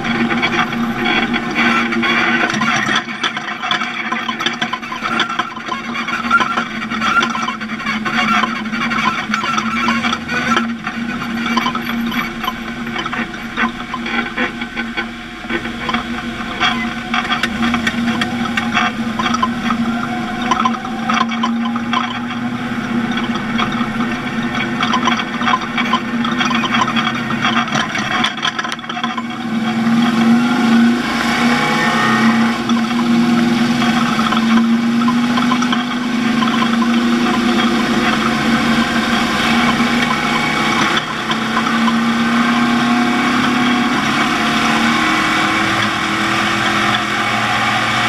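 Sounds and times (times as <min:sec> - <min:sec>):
knocks and rattles: 0:00.0 - 0:48.0
race vehicle engine running: 0:00.0 - 0:48.0.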